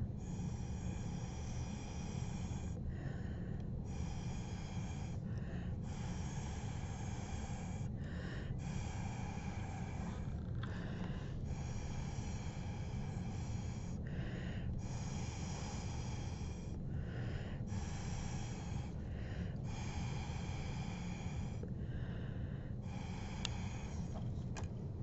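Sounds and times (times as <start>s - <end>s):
person breathing in: 0.2s - 24.4s.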